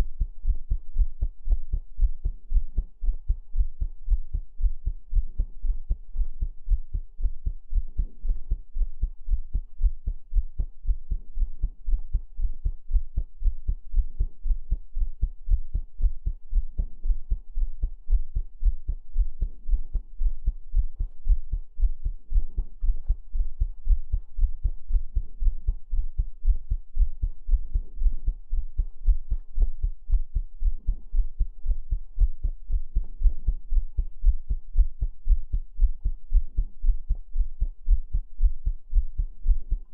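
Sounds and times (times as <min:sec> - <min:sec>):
heartbeat thumps: 0:00.0 - 0:39.9
low hum: 0:00.0 - 0:39.9.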